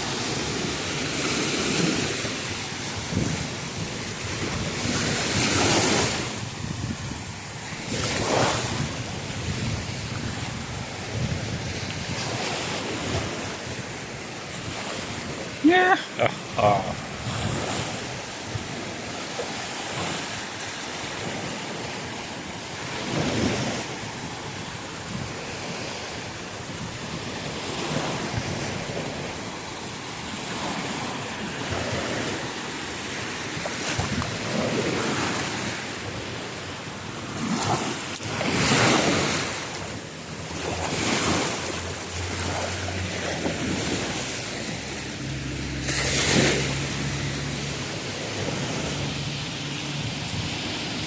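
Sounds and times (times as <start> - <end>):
wind on microphone: 0.0 - 15.9, 16.5 - 20.4, 21.1 - 29.6, 33.4 - 35.8, 37.4 - 51.0
sea waves breaking: 0.0 - 51.0.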